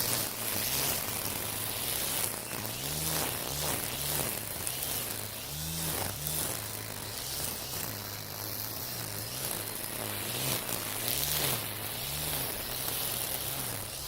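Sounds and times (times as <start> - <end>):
brush cutter motor hum: 0.0 - 14.0
trimmer line hissing through grass: 0.0 - 14.0.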